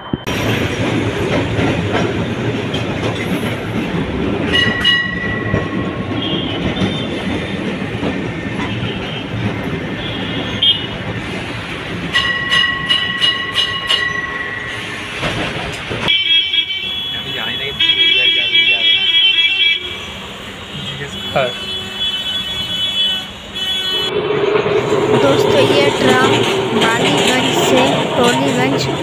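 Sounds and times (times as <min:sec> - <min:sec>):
tram wheels rumbling and rattling: 0:00.0 - 0:16.2, 0:16.9 - 0:29.0.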